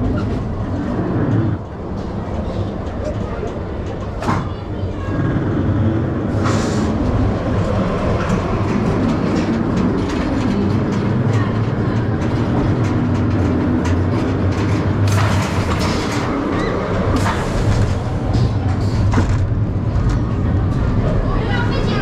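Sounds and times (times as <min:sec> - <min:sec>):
roller coaster wheels rumbling: 0:00.0 - 0:22.0.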